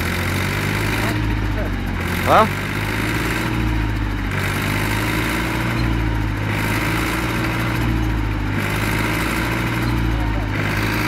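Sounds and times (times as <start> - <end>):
tractor engine labouring: 0.0 - 11.0.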